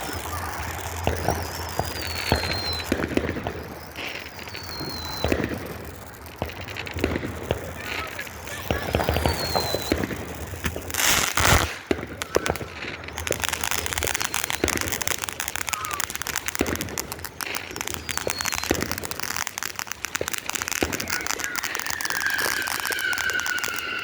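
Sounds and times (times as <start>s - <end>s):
falling firework whistle: 0.0s - 24.0s
firework rush: 0.0s - 24.0s
fireworks crackling and popping: 0.0s - 24.0s.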